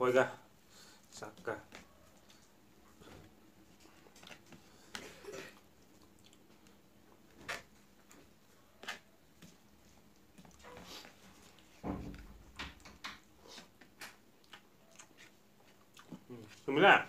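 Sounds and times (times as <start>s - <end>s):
faint chewing: 0.7s - 11.8s, 13.1s - 16.7s.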